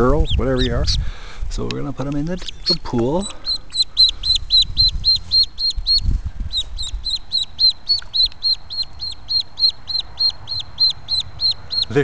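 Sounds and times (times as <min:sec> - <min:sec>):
duckling peeping: 0:00.0 - 0:01.0, 0:01.8 - 0:12.0.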